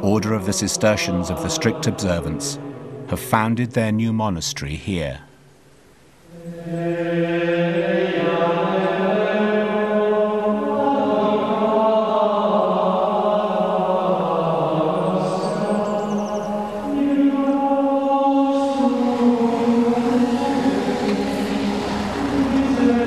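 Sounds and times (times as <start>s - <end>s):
male voices chanting in unison: 0.0s - 3.2s, 6.3s - 23.0s.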